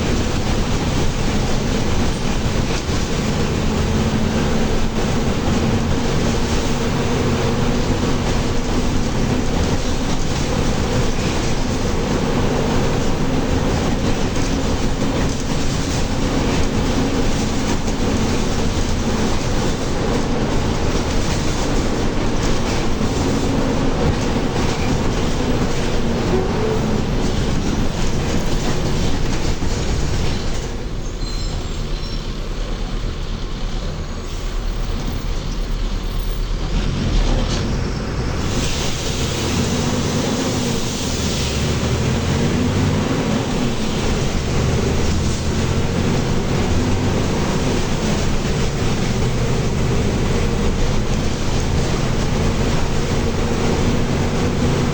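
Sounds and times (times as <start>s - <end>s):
bus body rattle: 0.0s - 54.9s
bus diesel engine running: 0.0s - 54.9s.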